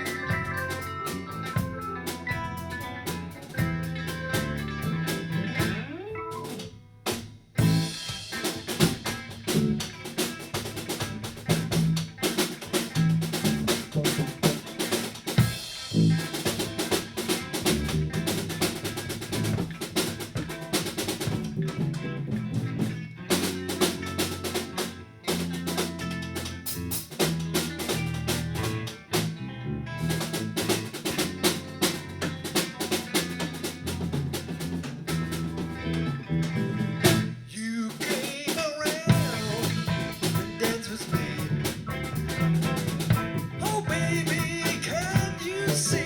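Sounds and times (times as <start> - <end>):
drum kit hits: 0.0 - 29.4, 36.5 - 46.0
rock band funky groove: 0.0 - 46.0.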